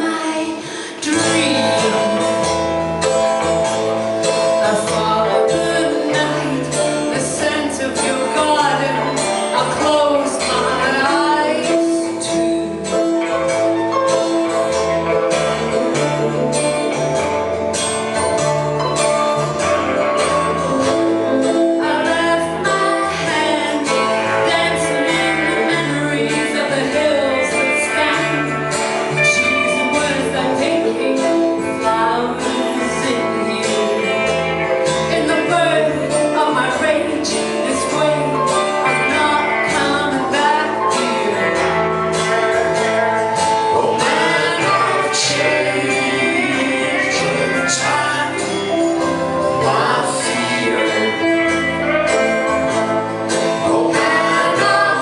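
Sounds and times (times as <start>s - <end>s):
guitar: 0.0s - 55.0s
steady bass line: 1.1s - 55.0s.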